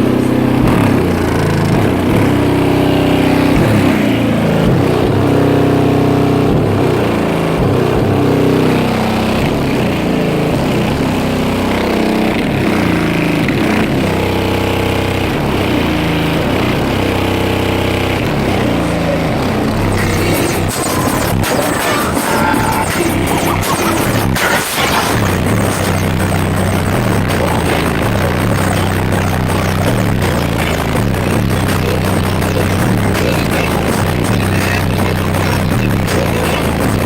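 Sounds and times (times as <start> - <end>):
deep bass notes sliding down: 0.0 - 37.0.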